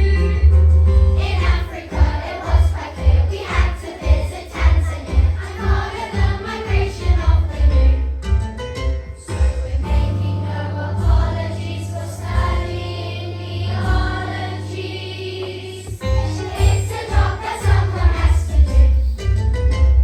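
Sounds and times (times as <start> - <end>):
children's choir singing: 1.2 - 8.0, 9.3 - 19.1.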